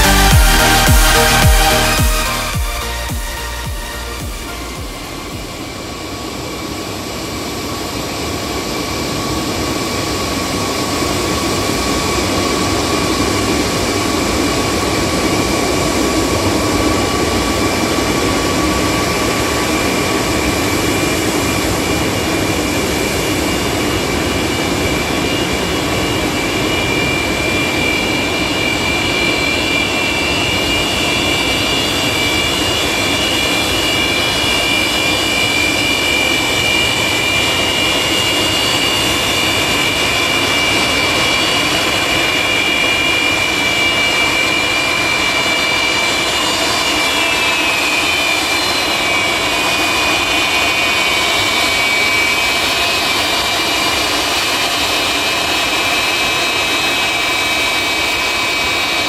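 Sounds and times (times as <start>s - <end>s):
high turbine whine: 0.0s - 59.0s.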